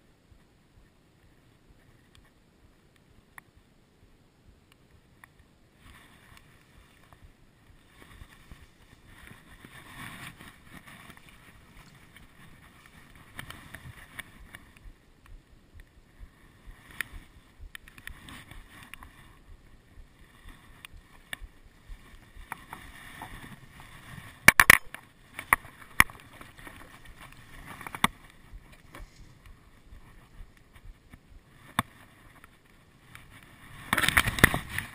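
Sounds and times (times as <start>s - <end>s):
reeds and grass rustling: 4.9s - 34.9s.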